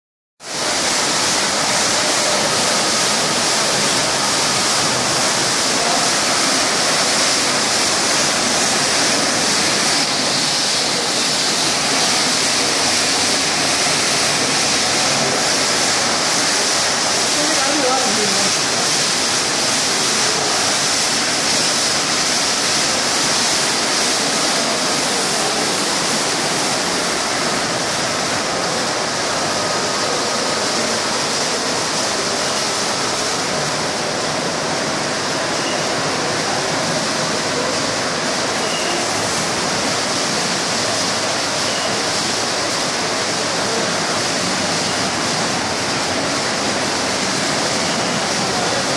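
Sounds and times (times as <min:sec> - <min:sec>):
car wash spraying water: 0:00.4 - 0:48.9.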